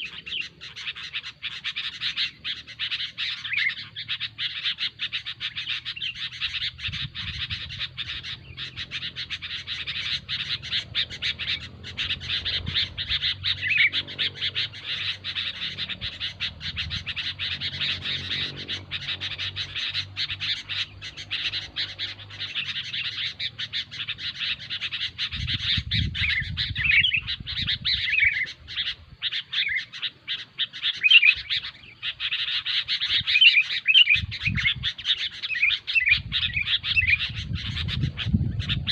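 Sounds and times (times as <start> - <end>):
bulbuls chattering: 0.0 - 38.9
whistled bird notes: 0.0 - 38.9.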